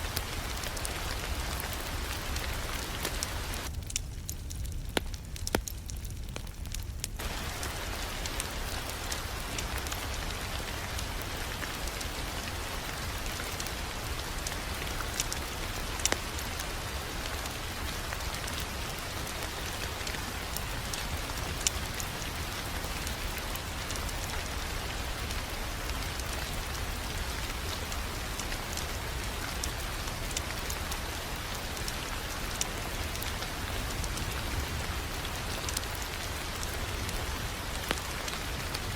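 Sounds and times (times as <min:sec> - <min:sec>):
fireplace crackling and popping: 0:00.0 - 0:38.9
rain-like hiss: 0:00.0 - 0:38.9.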